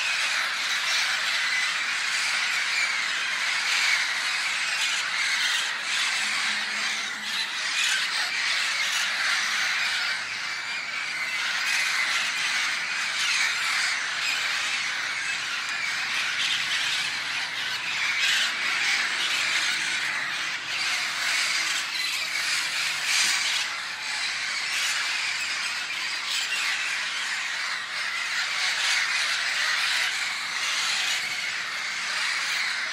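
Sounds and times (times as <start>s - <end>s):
flock of songbirds calling: 0.0s - 32.9s.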